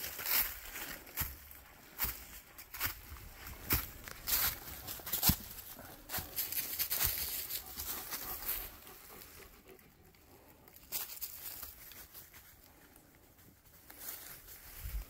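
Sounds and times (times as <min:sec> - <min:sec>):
footsteps crunching dry leaves: 0:00.0 - 0:09.6, 0:10.7 - 0:12.9, 0:13.6 - 0:15.0
leaves rustling: 0:00.0 - 0:15.0.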